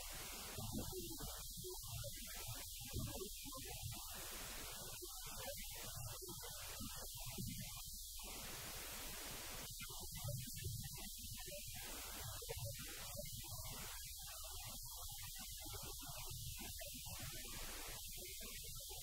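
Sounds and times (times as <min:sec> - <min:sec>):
mains hum with hiss: 0:00.0 - 0:19.0.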